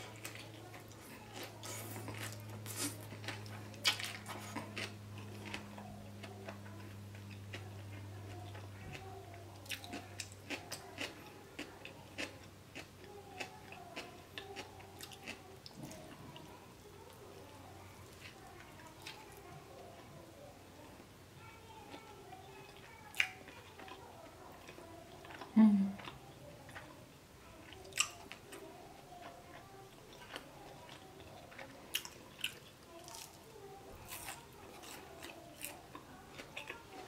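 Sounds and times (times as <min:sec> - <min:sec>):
person chewing food: 0:00.0 - 0:20.2, 0:21.9 - 0:27.0, 0:27.6 - 0:37.0
low steady hum: 0:00.0 - 0:37.0.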